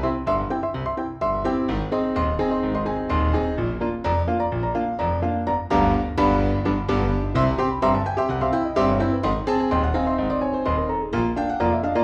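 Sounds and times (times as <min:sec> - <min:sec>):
keyboard melody: 0:00.0 - 0:12.0
low bass line: 0:00.0 - 0:12.0.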